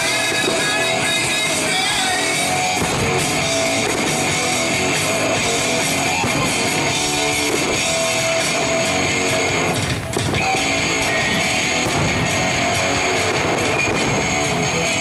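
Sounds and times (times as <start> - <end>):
rock music with guitar and drums: 0.0 - 15.0.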